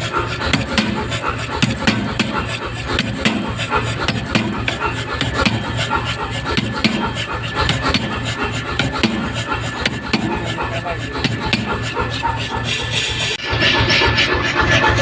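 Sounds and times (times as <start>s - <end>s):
machine pulsing low hum: 0.0s - 15.0s
power hammer striking steel: 0.4s - 12.7s.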